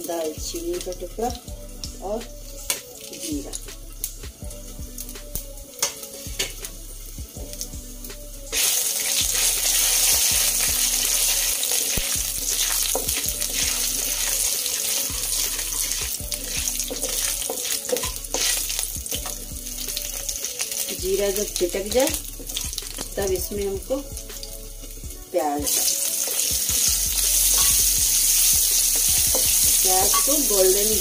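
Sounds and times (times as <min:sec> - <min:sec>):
spices sizzling in hot oil: 0:00.0 - 0:31.0.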